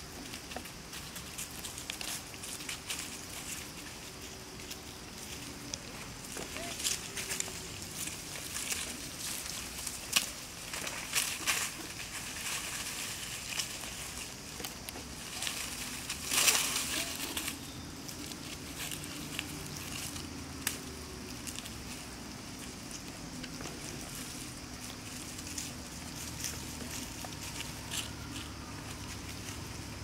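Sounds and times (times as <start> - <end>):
dry leaves crackling and rustling: 0.0 - 30.0.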